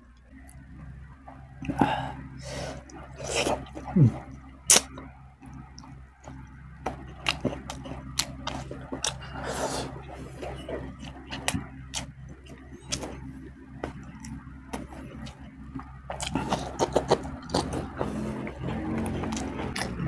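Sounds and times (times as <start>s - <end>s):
faint low hum: 0.0s - 20.0s
chewing and lip smacks: 1.6s - 20.0s.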